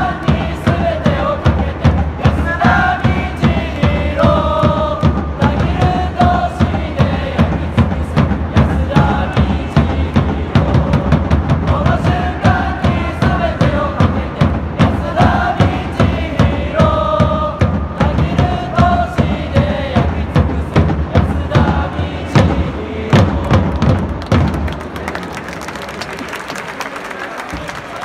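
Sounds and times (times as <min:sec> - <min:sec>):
crowd chanting in unison: 0:00.0 - 0:24.1
steady drum beat: 0:00.0 - 0:25.0.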